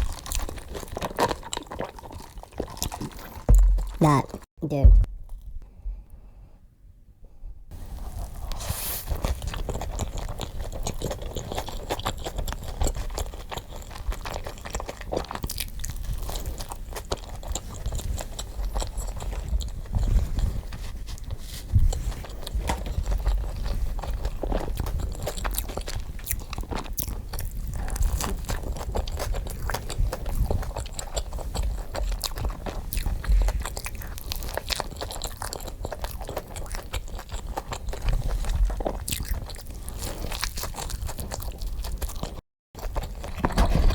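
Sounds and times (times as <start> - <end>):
chewing crunchy food: 0.0 - 4.5, 7.7 - 43.9.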